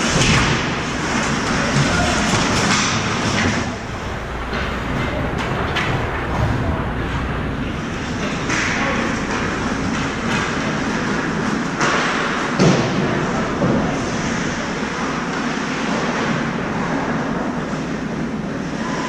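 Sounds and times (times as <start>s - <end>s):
echoing arena noise: 0.0s - 19.0s.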